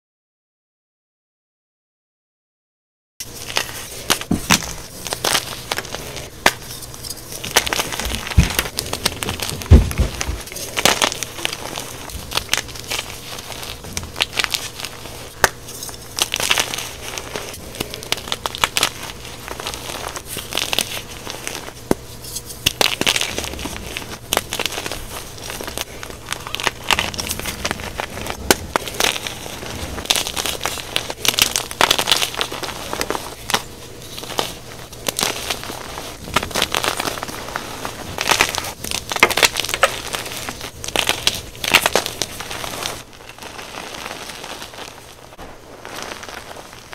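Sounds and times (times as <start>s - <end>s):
chalk crunching in hands: 3.2s - 46.9s.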